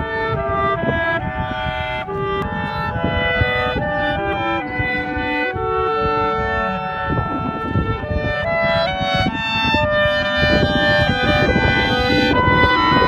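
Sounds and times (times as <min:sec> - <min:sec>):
clarinet ensemble playing: 0:00.0 - 0:13.0.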